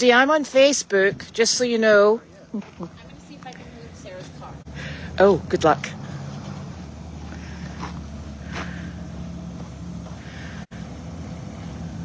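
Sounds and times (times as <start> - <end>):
pickup truck engine running: 0.8 - 12.0.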